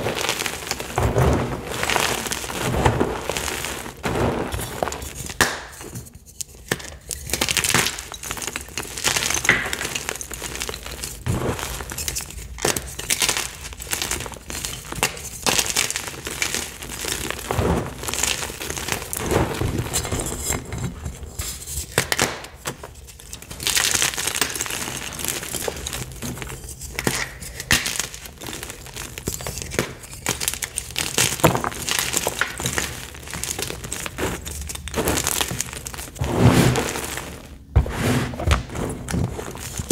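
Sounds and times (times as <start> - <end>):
hands crunching chalk blocks: 0.0 - 20.8, 21.4 - 39.9.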